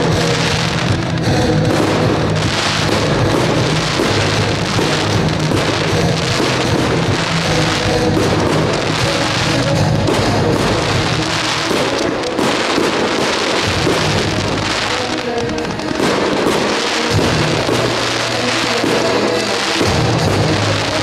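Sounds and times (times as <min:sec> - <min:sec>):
fireworks crackling: 0:00.0 - 0:21.0
music playing: 0:00.0 - 0:21.0.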